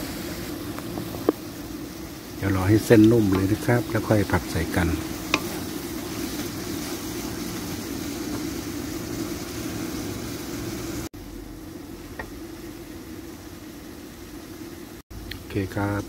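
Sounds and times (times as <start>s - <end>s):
gas burner rushing: 0.0s - 16.0s
noodles sizzling in a wok: 0.0s - 16.0s.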